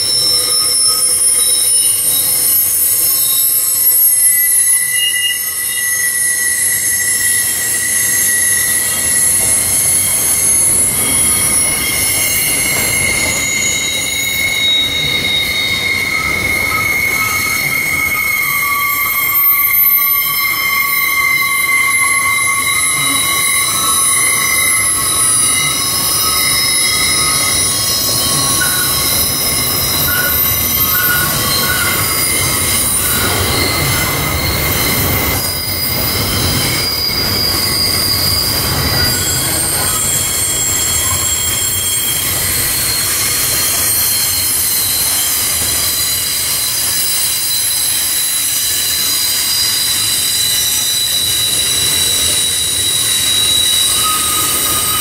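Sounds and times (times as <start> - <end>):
low rumble of train wagons: 0.0 - 55.0
train wheels squealing: 0.0 - 55.0.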